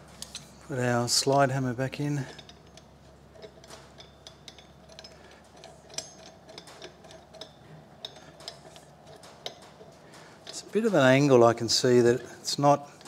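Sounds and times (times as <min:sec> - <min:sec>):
metal clicks and clinks: 0:00.1 - 0:00.6, 0:02.0 - 0:13.0.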